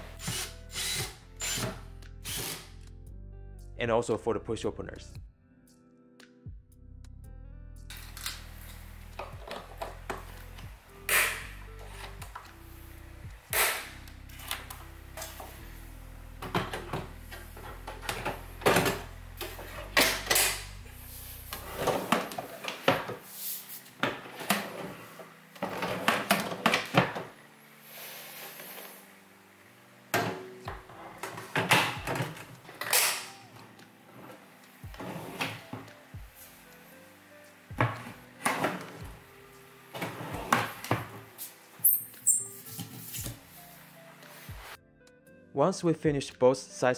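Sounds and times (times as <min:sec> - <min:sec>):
soft background music: 0:00.0 - 0:46.9.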